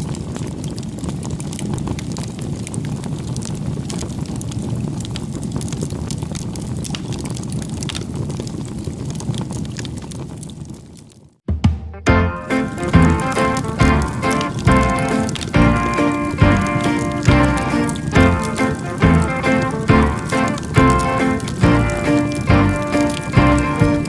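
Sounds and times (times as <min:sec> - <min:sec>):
small crackles: 0:00.0 - 0:11.4, 0:12.5 - 0:24.0.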